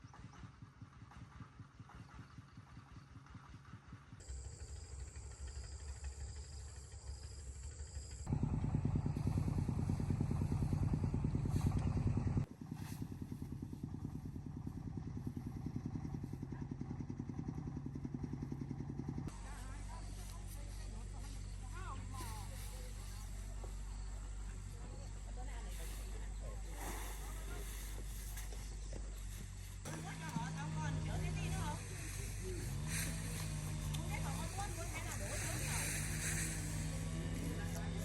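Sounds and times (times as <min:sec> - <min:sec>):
single-cylinder diesel engine running: 0:02.8 - 0:38.0.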